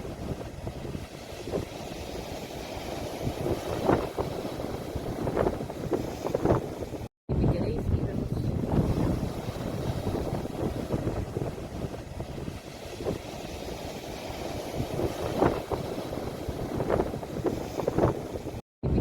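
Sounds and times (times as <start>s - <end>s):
sea waves washing at shore: 0.0s - 18.6s
wind rumbling on microphone: 0.0s - 19.0s.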